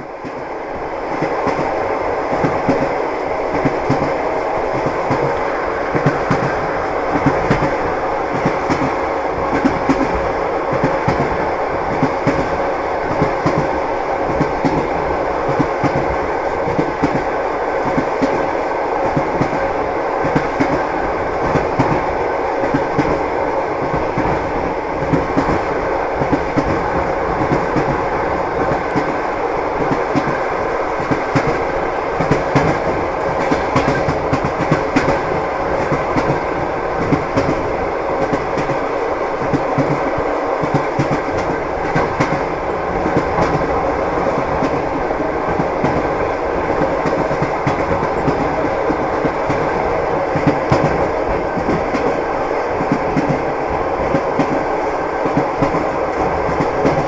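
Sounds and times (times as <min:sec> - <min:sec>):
train rumble: 0:00.0 - 0:57.0
train wheels clacking: 0:01.1 - 0:57.0.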